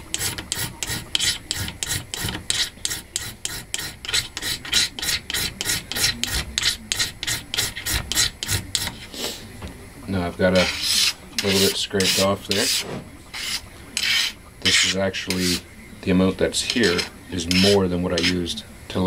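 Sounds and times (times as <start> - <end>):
striker rasping on fire-starter: 0.0 - 9.4, 10.6 - 15.6, 16.6 - 18.4.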